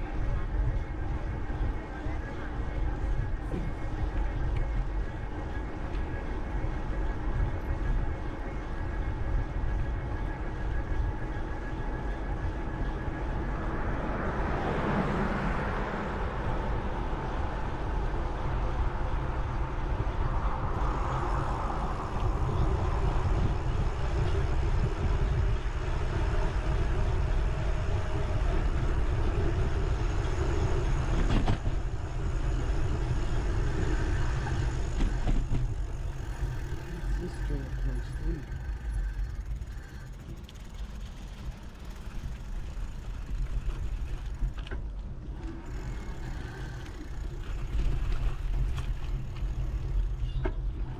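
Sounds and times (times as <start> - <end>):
bicycle tyres rolling: 0.0 - 50.9
wind rumble on microphone: 0.0 - 50.9.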